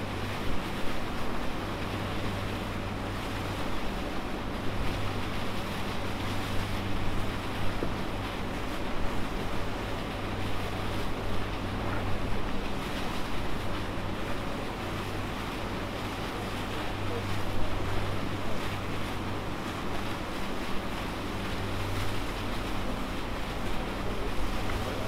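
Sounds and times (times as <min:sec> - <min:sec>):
low engine hum: 0:00.0 - 0:25.0
water washing along hull: 0:00.0 - 0:25.0.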